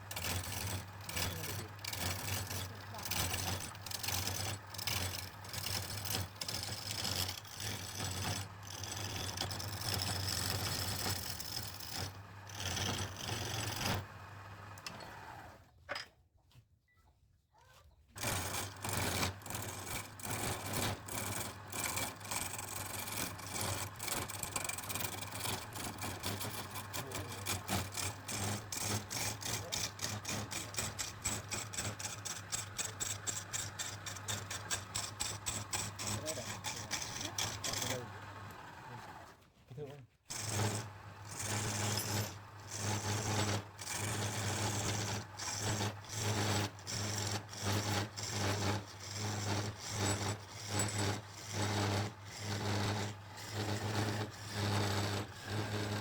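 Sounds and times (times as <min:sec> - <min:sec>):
wood lathe humming: 0:00.0 - 0:15.6, 0:18.2 - 0:39.4, 0:40.3 - 0:56.0
tool ticking on spinning wood: 0:00.1 - 0:14.0, 0:18.2 - 0:38.8, 0:40.3 - 0:56.0.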